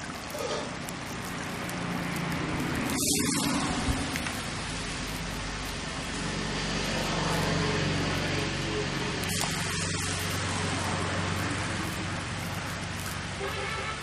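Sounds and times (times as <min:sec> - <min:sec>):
engine-like hum: 0:00.0 - 0:14.0
even hiss: 0:00.0 - 0:14.0.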